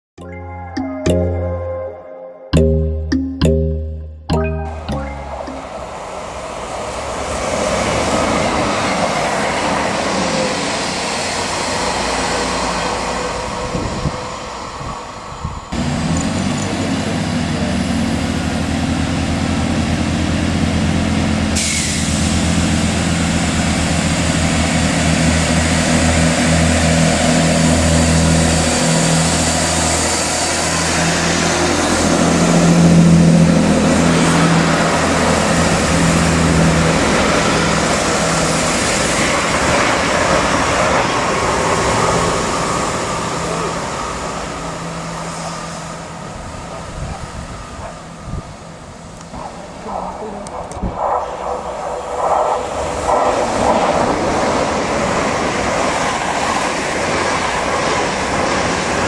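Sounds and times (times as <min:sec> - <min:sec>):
diesel engines droning: 0:02.6 - 0:59.0
train passing at speed: 0:05.2 - 0:59.0.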